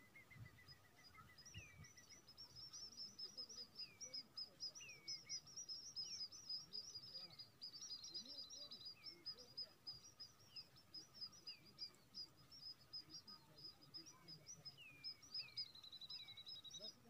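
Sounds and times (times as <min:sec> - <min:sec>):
bird trill: 0:00.0 - 0:17.0
small songbirds chirping: 0:00.0 - 0:17.0.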